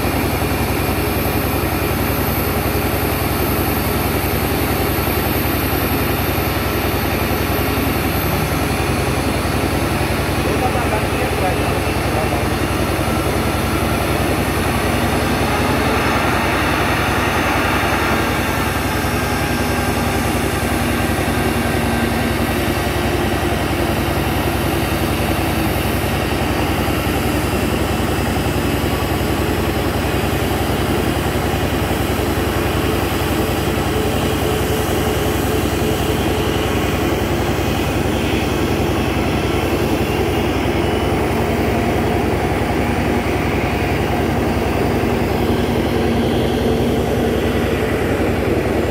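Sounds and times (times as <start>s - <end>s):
jet airliner taxiing: 0.0s - 48.9s.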